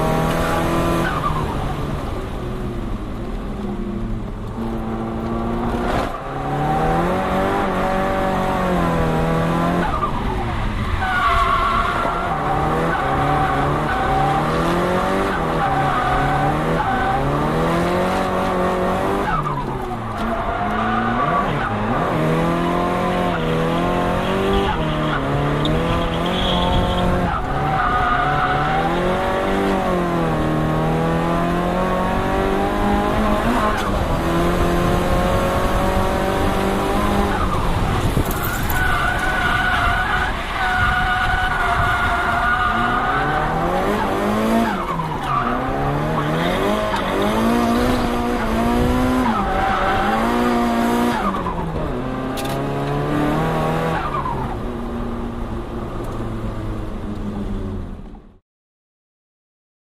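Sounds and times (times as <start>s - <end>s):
turbocharged car engine revving: 4.0s - 10.1s, 11.3s - 54.4s.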